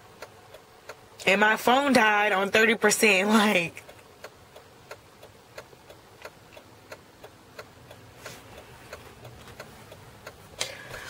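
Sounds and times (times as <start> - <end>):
hazard-light flasher ticking: 0.1 - 2.1, 3.8 - 10.7.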